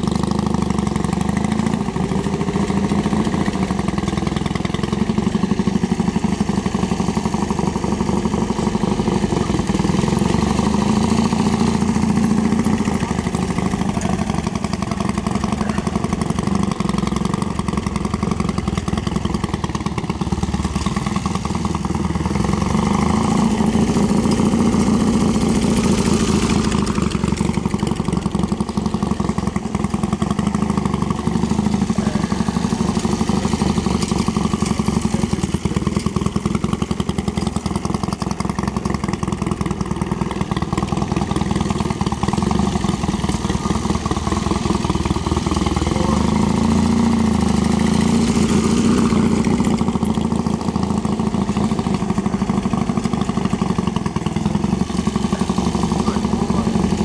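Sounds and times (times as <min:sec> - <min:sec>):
motorcycle engine running slowly: 0:00.0 - 0:57.0.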